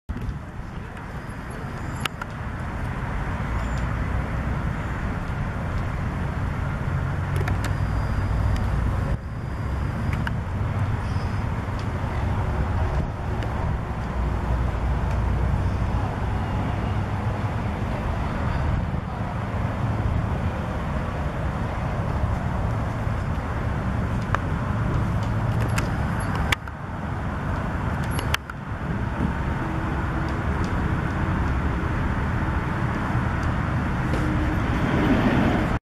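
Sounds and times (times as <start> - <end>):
car engine rumble: 0.1 - 35.8
road traffic: 0.1 - 35.8.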